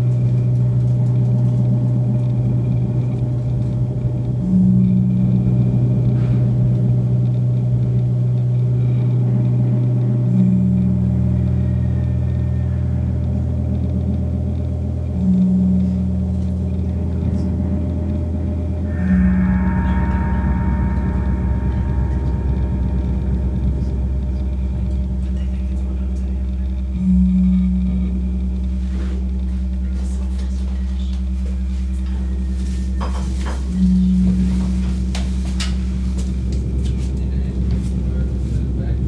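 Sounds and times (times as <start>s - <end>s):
electronic drone tones: 0.0s - 39.0s
high steady ringing tone: 0.0s - 39.0s.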